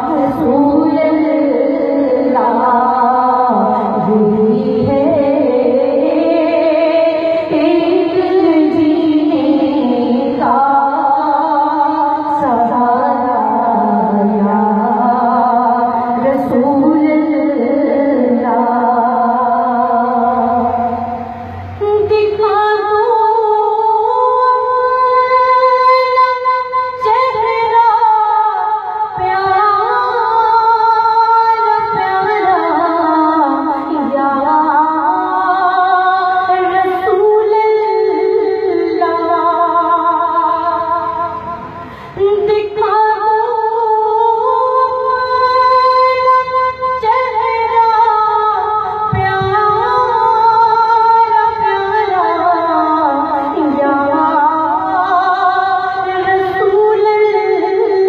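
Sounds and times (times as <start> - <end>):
woman singing devotional song: 0.0 - 58.0.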